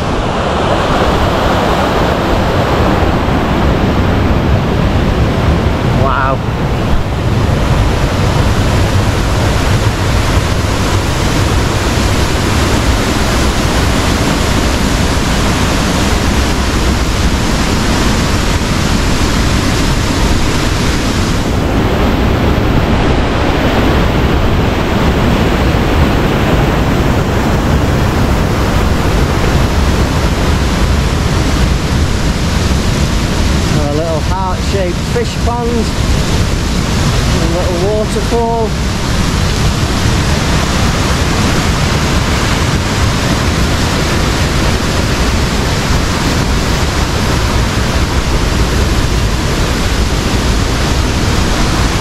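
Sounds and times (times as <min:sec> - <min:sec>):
stream rushing down channel: 0:00.0 - 0:52.0.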